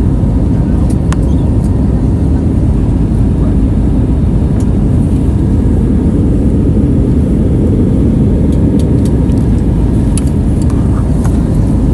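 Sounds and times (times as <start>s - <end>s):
aircraft engines rumbling at takeoff: 0.0s - 11.9s.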